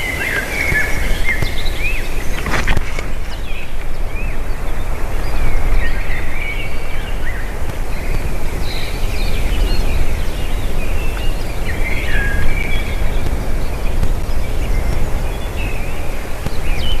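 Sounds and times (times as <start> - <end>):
birds chirping and whistling: 0.0 - 17.0
low wind rumble: 0.0 - 17.0.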